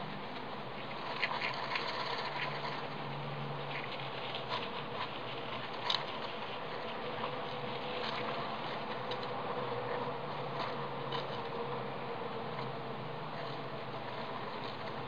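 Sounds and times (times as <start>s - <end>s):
hamster scratching in sand: 0.0s - 15.0s.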